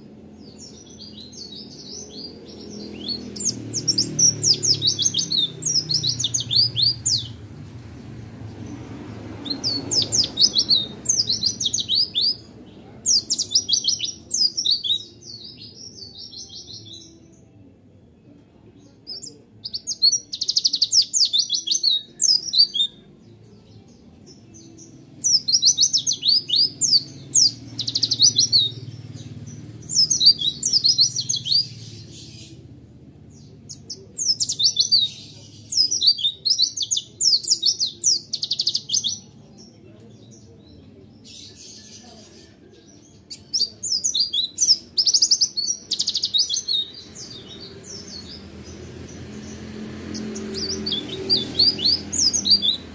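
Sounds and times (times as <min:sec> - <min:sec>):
bird twittering and trilling: 0:00.0 - 0:17.5, 0:19.0 - 0:52.9.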